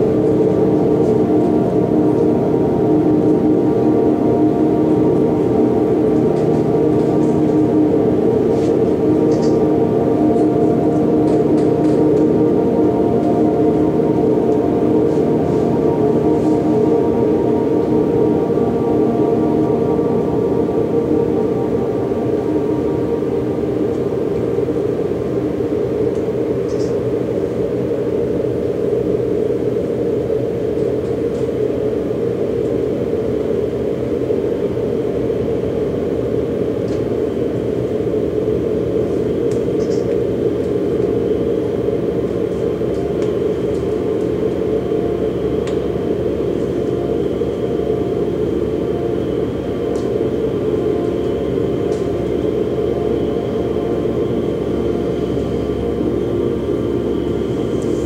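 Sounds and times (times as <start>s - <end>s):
ambient drone with held tones: 0.0s - 58.0s.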